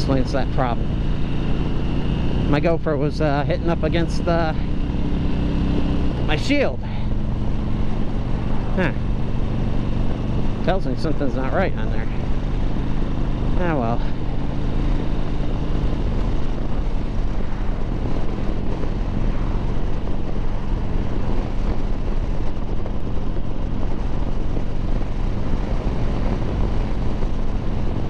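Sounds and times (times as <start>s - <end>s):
motorcycle engine running: 0.0s - 28.0s
wind noise: 0.0s - 28.0s.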